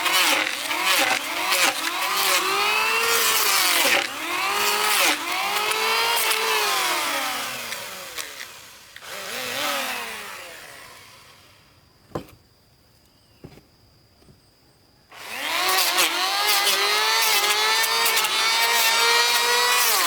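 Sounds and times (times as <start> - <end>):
power tool motor: 0.0 - 11.6, 15.1 - 20.0.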